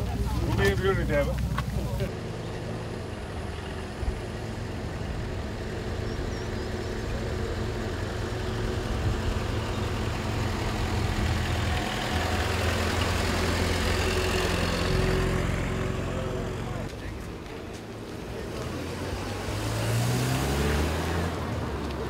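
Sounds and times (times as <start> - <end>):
jeep engine driving past: 0.0 - 16.9, 18.1 - 22.0.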